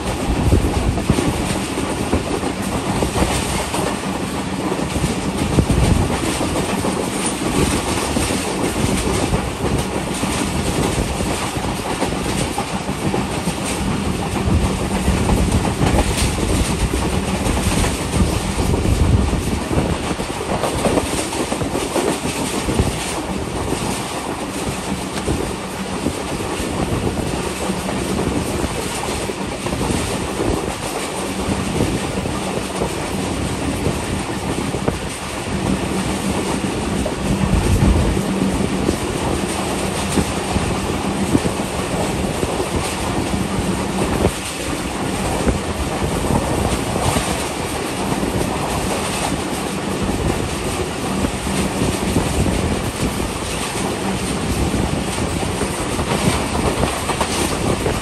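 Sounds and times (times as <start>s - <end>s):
train rumble: 0.0s - 58.0s
wheels clicking over rail joints: 0.0s - 58.0s.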